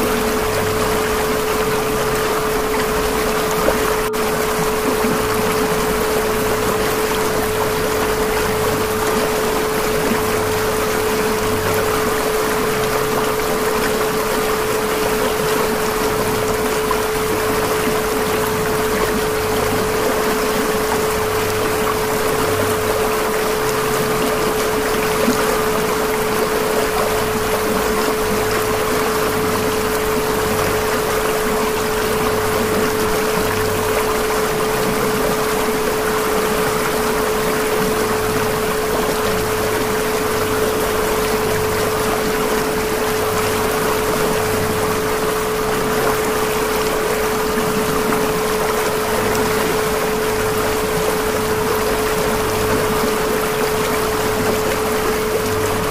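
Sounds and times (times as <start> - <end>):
rushing water-like noise: 0.0 - 55.9.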